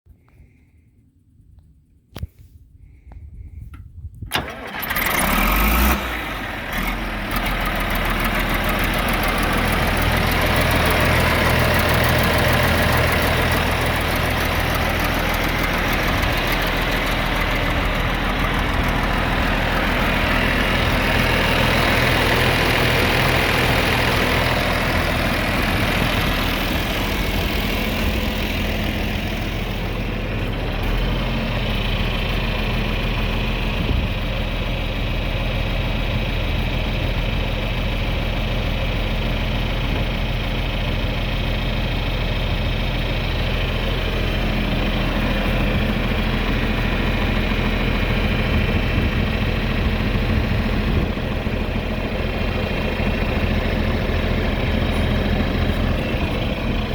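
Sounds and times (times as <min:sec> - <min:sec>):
tractor diesel engine idling: 0:04.3 - 0:56.9.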